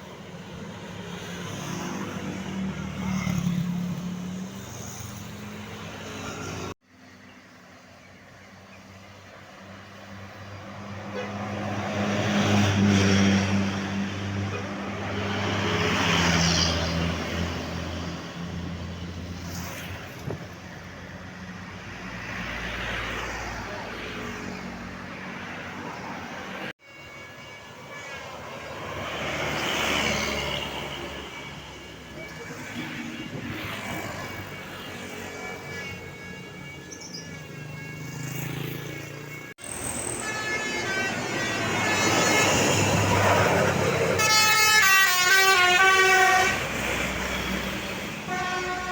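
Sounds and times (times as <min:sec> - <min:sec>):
buses driving past: 0:00.0 - 0:48.9.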